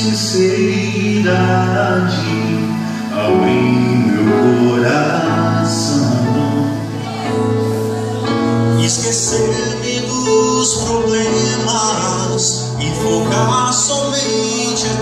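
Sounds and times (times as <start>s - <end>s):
man singing gospel song: 0.0s - 7.8s, 8.4s - 15.0s
keyboard chords: 0.0s - 15.0s.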